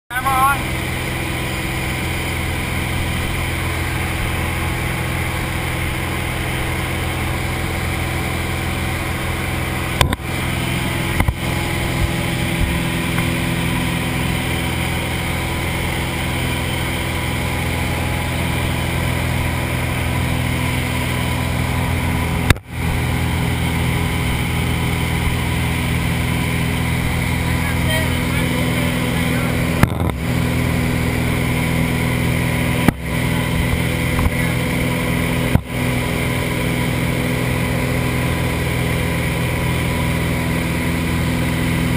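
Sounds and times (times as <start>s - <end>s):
light aircraft engine droning: 0.1s - 41.9s.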